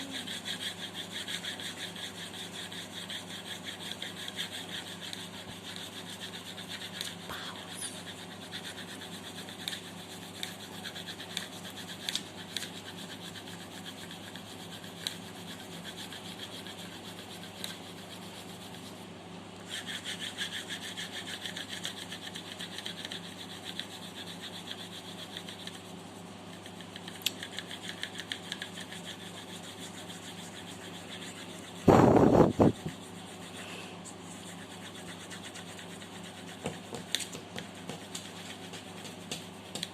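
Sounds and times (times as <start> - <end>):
pencil scratching on paper: 0.0 - 19.0, 19.7 - 39.9.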